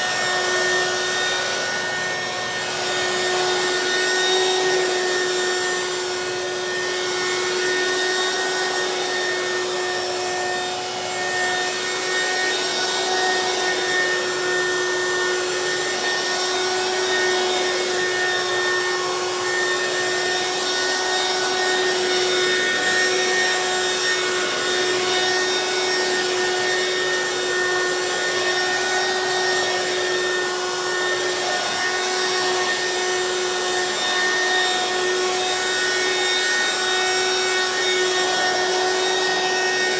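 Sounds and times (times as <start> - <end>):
stick vacuum running on rug: 0.0 - 39.9.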